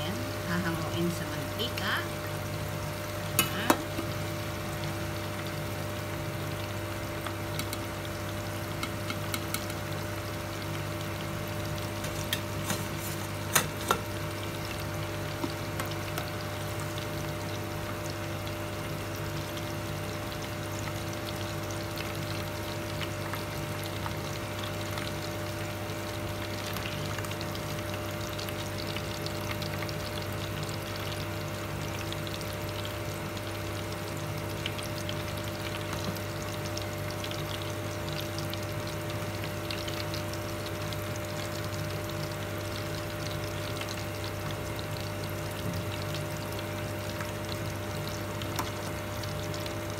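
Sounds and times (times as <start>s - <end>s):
low electrical hum: 0.0s - 49.9s
oil sizzling and bubbling: 0.0s - 49.9s.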